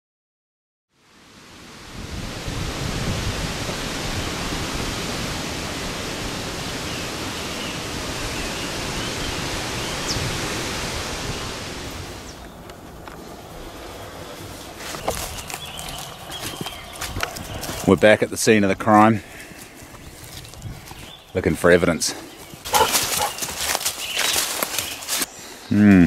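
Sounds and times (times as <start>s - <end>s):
steady rushing noise: 1.1s - 25.3s.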